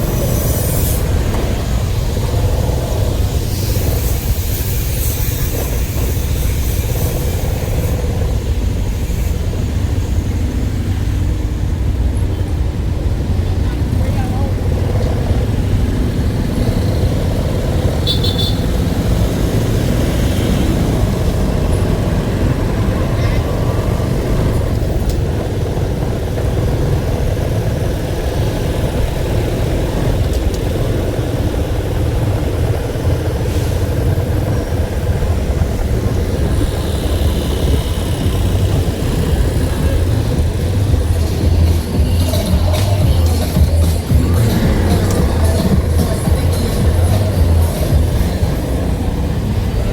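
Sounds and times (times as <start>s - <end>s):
vehicle engine rumbling: 0.0s - 49.9s.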